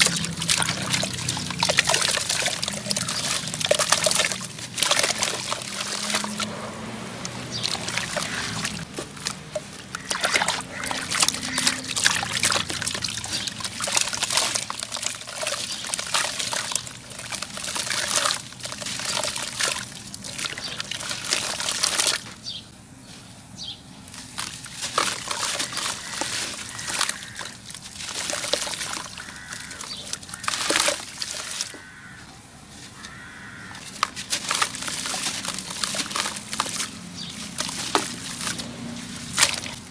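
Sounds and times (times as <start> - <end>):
gritty crumbs splashing into water: 0.0 - 22.4, 24.1 - 32.2, 33.0 - 39.9.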